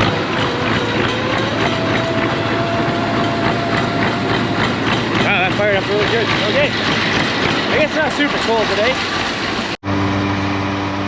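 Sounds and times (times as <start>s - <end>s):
diesel tractor engine clattering: 0.0s - 9.8s.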